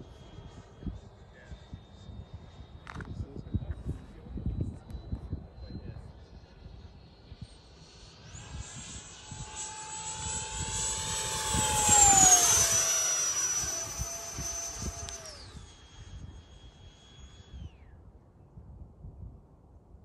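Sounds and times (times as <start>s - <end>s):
model jet fan whining past: 0.0s - 18.4s.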